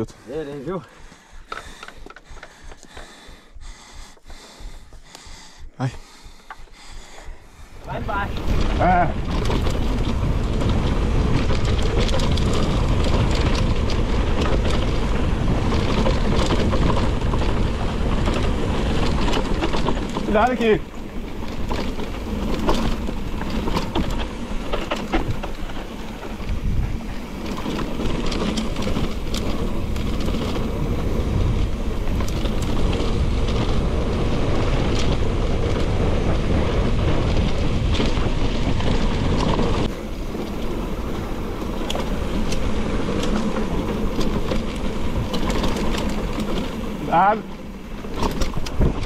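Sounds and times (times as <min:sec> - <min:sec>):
bike rattling over bumps: 0:00.0 - 0:49.0
wind on microphone: 0:01.2 - 0:49.0
tyres on dirt and stone: 0:05.9 - 0:49.0.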